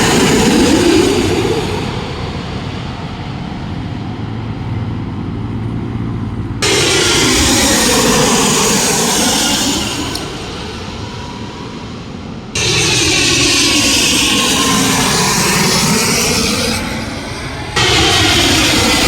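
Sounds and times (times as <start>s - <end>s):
plane passing with phasing tone: 0.0s - 5.1s, 6.6s - 19.0s
jet engine rumble: 0.0s - 19.0s.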